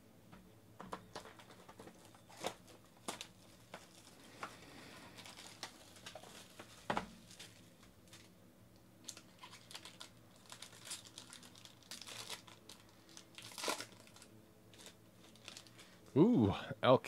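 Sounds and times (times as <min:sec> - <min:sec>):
plastic shrink-wrap crinkling: 0:01.1 - 0:08.3, 0:09.0 - 0:16.0.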